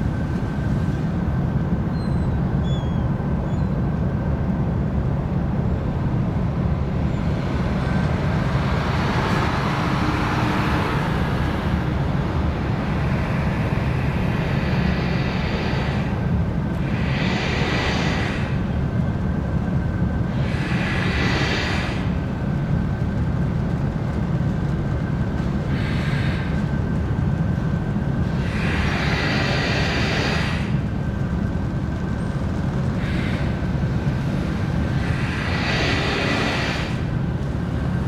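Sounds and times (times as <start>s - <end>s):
ship engines rumbling: 0.0s - 38.0s
broad rushing noise: 6.8s - 38.0s.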